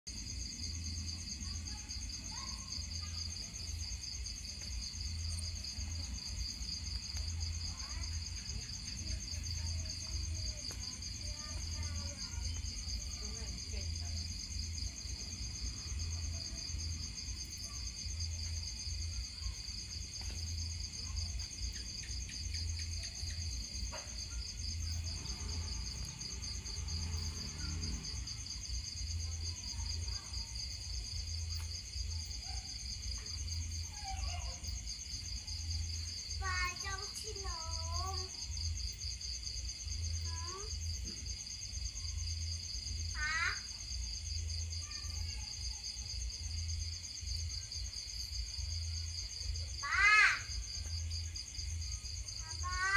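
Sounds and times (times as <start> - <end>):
crickets trilling: 0.1 - 52.9.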